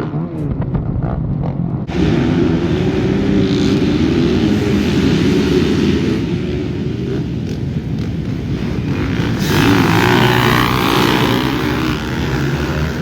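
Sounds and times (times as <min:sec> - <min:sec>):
dirt bike engines running: 0:00.0 - 0:13.0
broad rush of noise: 0:01.8 - 0:13.0.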